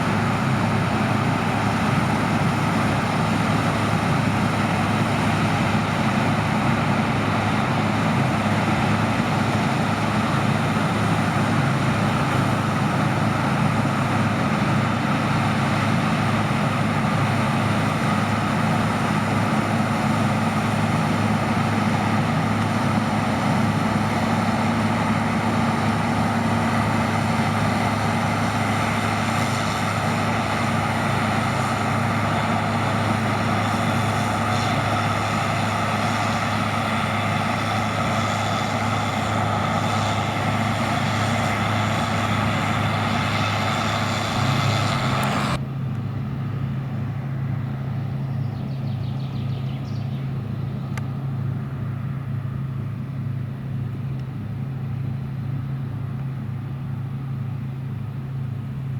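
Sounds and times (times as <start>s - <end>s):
diesel engine hum: 0.0s - 58.9s.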